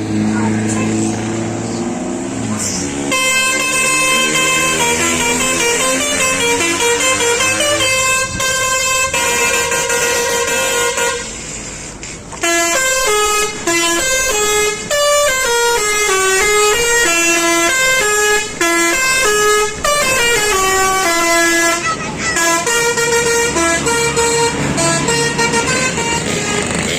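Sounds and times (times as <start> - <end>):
musical air horn playing a tune: 3.0 - 11.4, 12.4 - 26.9.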